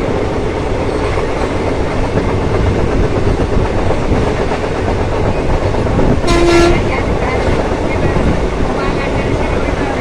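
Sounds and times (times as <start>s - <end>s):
train rumbling and rattling on rails: 0.0s - 10.0s.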